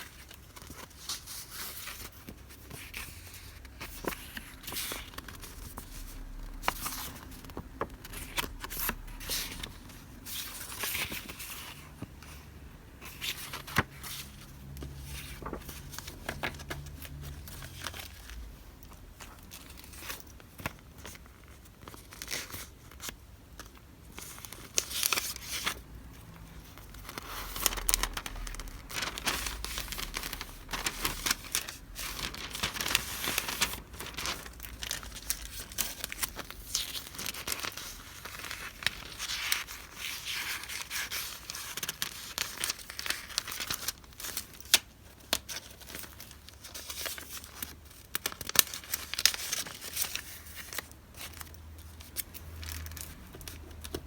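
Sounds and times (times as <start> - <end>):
paper and plastic wrapping crinkling: 0.0 - 54.0.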